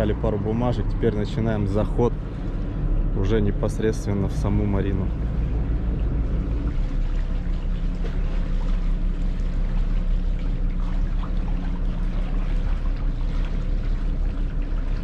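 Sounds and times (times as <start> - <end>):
diesel engine running: 0.0 - 15.0
water rushing along hulls: 0.0 - 15.0.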